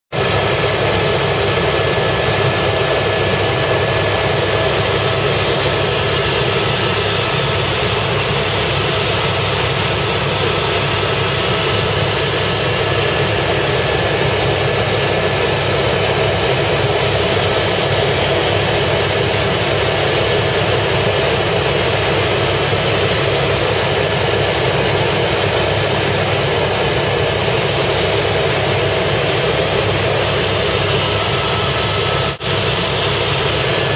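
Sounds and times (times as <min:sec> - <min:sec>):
helicopter engine and rotor drone: 0:00.1 - 0:33.9.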